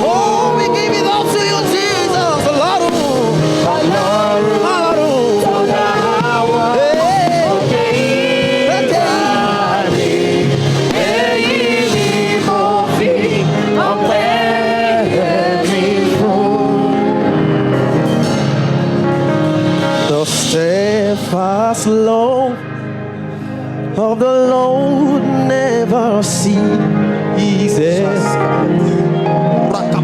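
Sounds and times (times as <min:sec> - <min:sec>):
gospel choir singing: 0:00.0 - 0:29.7
live band accompaniment: 0:00.0 - 0:30.0.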